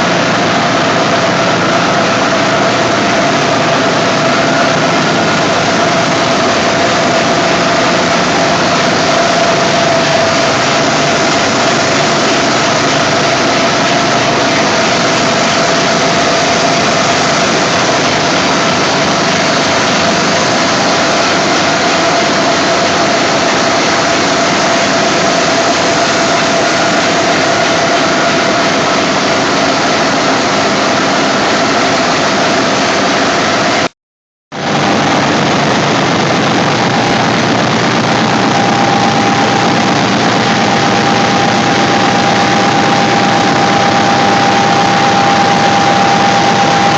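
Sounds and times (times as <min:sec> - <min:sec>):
air compressors running: 0:00.0 - 0:33.9, 0:34.6 - 0:46.9
constant machine whine: 0:00.0 - 0:33.9, 0:34.6 - 0:46.9.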